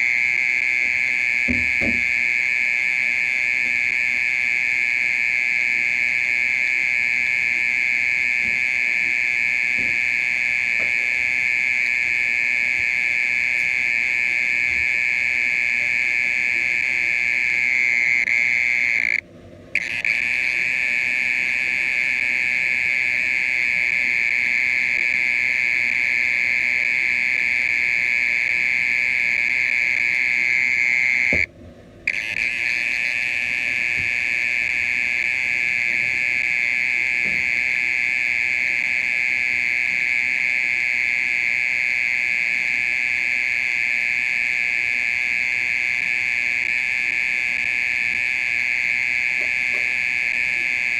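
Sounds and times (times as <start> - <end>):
mole cricket buzzing trill: 0.0 - 50.9.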